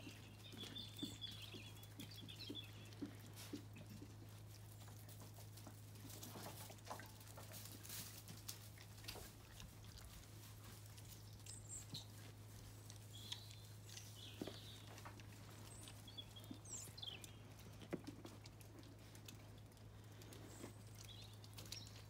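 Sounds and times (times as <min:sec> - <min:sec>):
low steady hum: 0:00.0 - 0:22.0
small birds chirping: 0:00.0 - 0:22.0.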